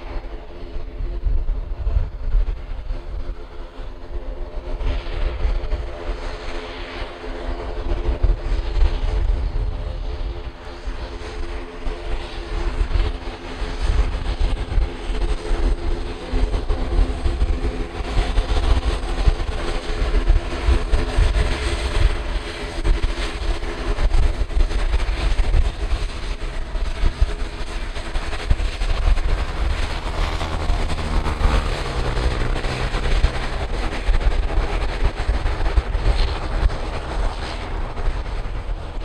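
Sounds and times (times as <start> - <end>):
turboprop engines running: 0.0 - 39.0.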